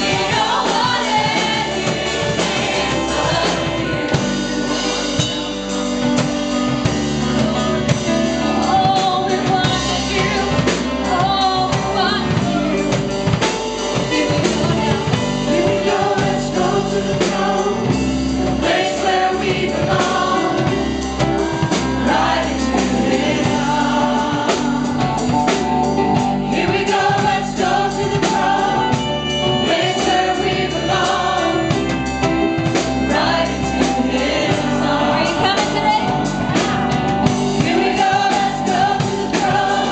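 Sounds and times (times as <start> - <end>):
gospel choir singing: 0.0 - 39.9
instruments and drums: 0.0 - 39.9.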